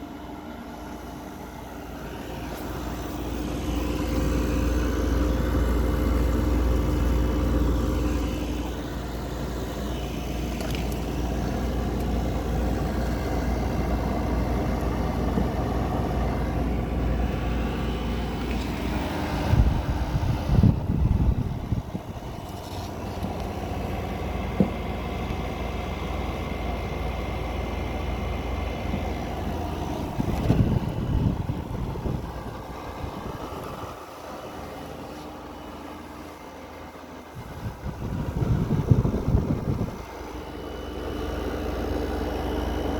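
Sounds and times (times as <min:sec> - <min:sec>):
air conditioner fan rush: 0:00.0 - 0:42.9
low compressor hum: 0:00.0 - 0:42.9.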